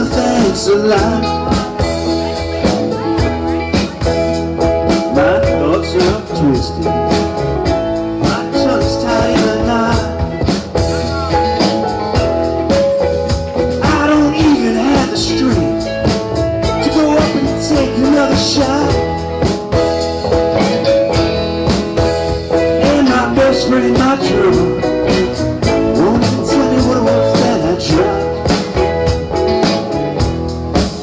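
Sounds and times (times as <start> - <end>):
bass guitar: 0.0 - 31.0
drum kit: 0.0 - 31.0
electric guitars: 0.0 - 31.0
keyboard: 0.0 - 31.0.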